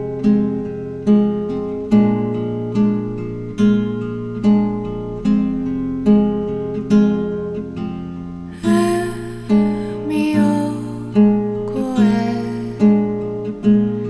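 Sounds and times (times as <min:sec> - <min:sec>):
guitar chords ringing: 0:00.0 - 0:14.0.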